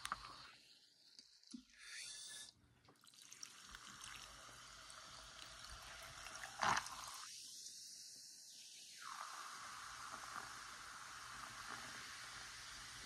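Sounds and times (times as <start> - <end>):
soda fizzing in glass: 0.0 - 13.0.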